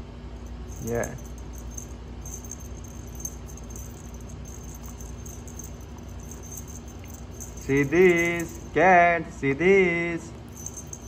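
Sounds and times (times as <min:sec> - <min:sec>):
low hum: 0:00.4 - 0:08.8, 0:10.2 - 0:11.0
cat toy jingling: 0:00.5 - 0:08.8, 0:10.3 - 0:11.0.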